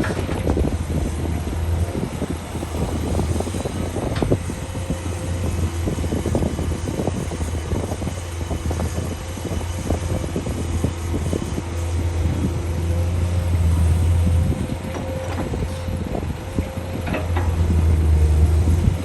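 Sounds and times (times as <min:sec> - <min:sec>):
diesel construction machinery running: 0:00.0 - 0:19.0.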